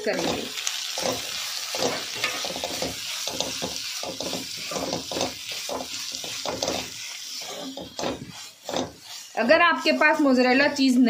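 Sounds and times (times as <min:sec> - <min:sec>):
food sizzling: 0:00.0 - 0:11.0
metal spatula scraping a pan: 0:00.0 - 0:11.0.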